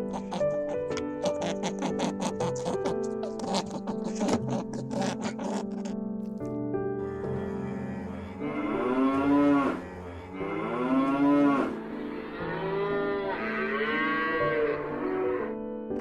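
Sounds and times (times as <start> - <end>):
cattle mooing: 0.0 - 5.9, 7.1 - 15.6.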